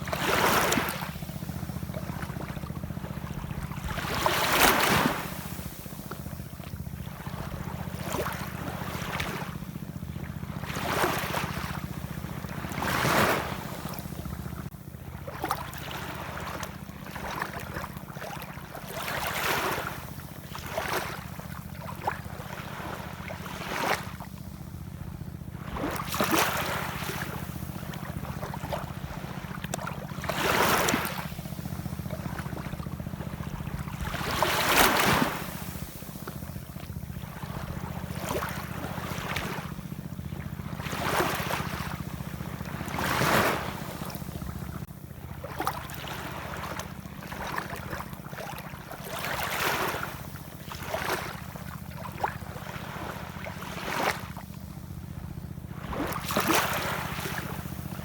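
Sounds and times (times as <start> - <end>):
ocean waves washing in: 0.0 - 14.7, 17.3 - 54.5, 55.7 - 58.0.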